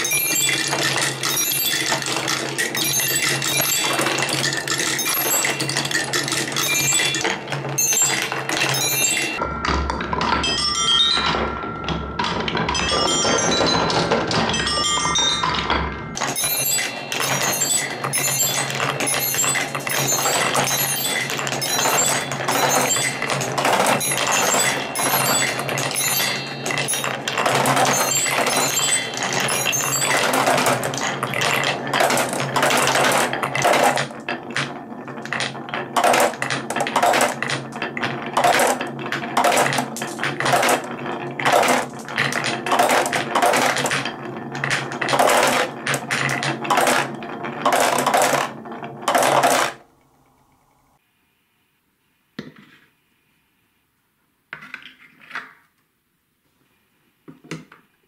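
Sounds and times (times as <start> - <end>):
marbles clinking into plastic jar: 0.0 - 10.8, 12.2 - 49.8
glass marbles rattling on wood: 0.0 - 49.8.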